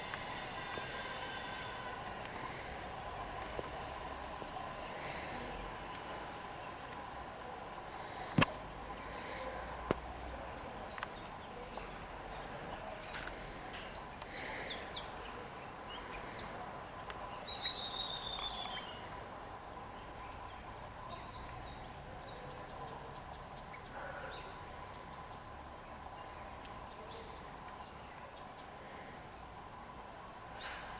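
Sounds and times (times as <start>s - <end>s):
steady background hum: 0.0s - 30.9s.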